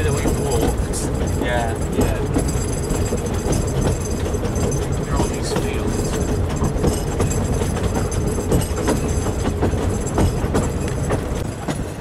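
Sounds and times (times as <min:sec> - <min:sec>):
train carriage rumble: 0:00.0 - 0:12.0
wheels knocking and rattling on track: 0:00.0 - 0:12.0.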